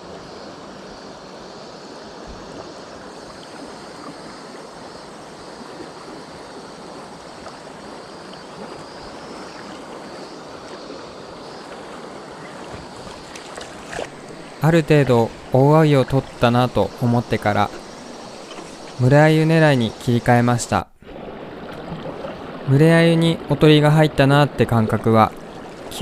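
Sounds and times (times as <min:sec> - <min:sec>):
river current rushing: 0:00.0 - 0:26.0.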